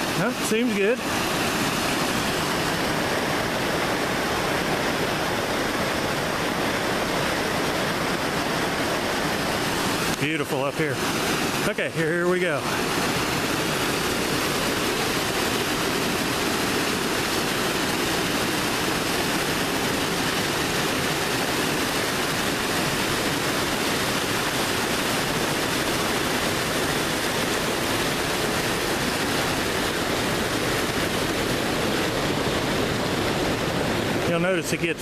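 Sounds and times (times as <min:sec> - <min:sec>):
creek rushing over boulders: 0:00.0 - 0:35.0.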